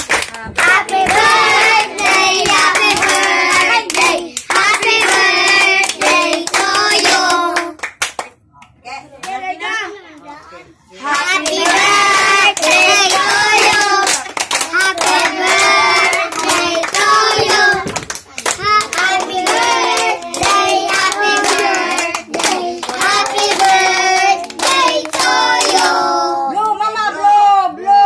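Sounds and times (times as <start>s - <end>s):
group singing: 0.4s - 7.8s, 11.0s - 26.6s.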